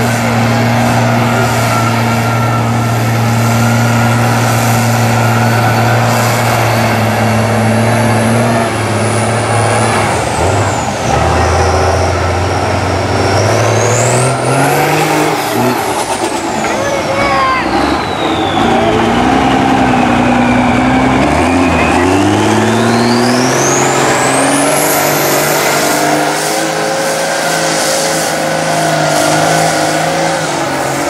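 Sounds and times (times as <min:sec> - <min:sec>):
truck engine revving in mud: 0:00.0 - 0:31.0.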